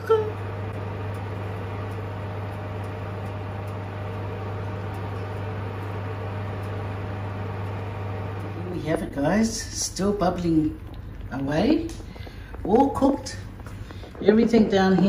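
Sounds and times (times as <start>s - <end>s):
kitchen appliance fan humming: 0.0s - 15.0s.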